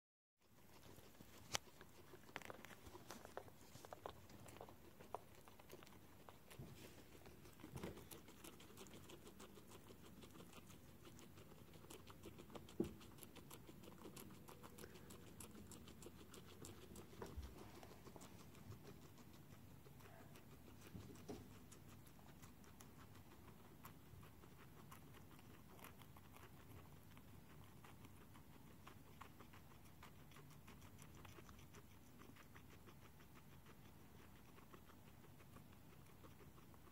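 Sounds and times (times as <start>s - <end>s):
guinea pigs nibbling: 0.4s - 36.9s.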